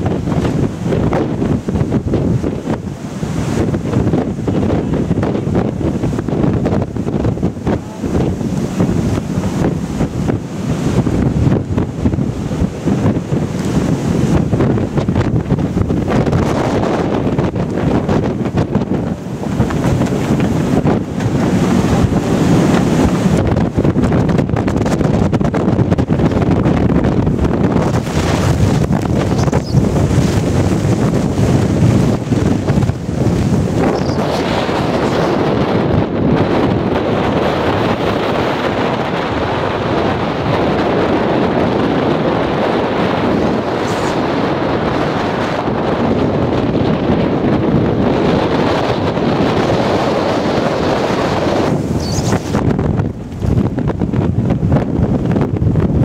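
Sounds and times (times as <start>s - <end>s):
rush of the sea: 0.0s - 56.0s
wind buffeting microphone: 0.0s - 56.0s.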